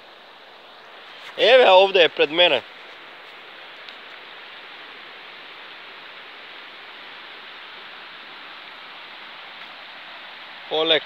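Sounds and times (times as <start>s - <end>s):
river flowing over rapids: 0.0s - 11.0s.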